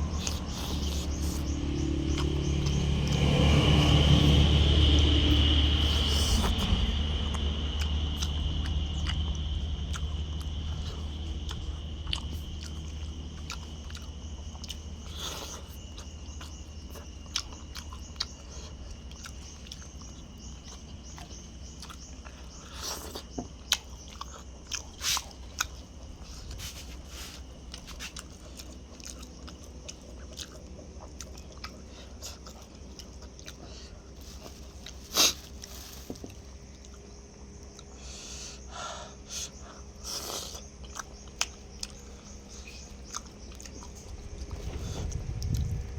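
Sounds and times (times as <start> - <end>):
person chewing and biting: 0.0 - 38.1, 39.3 - 45.8
low steady hum: 0.0 - 45.9.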